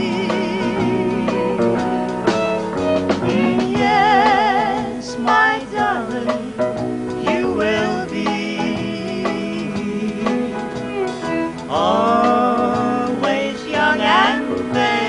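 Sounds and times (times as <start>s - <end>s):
acoustic guitar and backing band: 0.0s - 15.0s
person singing with vibrato: 0.0s - 15.0s.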